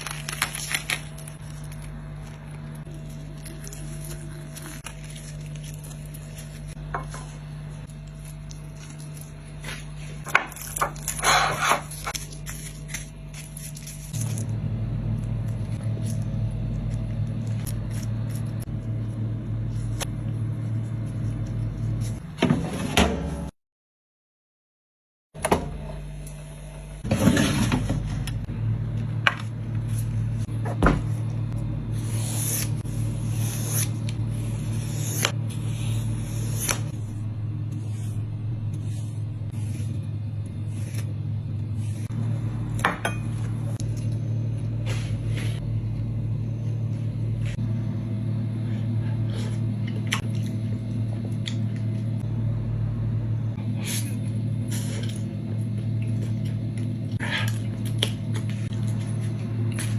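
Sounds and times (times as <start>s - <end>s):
low hum: 0.0s - 23.5s, 25.4s - 59.9s.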